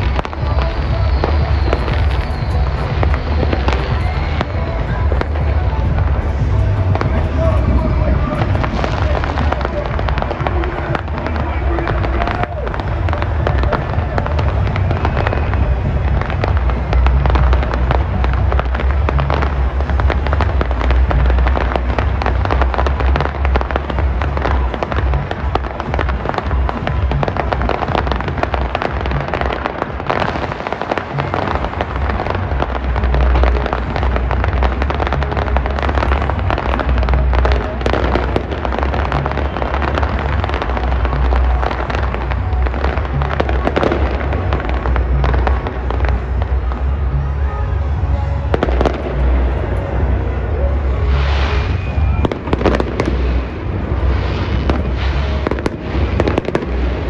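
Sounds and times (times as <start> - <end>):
deep fireworks booms: 0.0 - 57.0
fireworks bangs and crackling: 0.0 - 57.0.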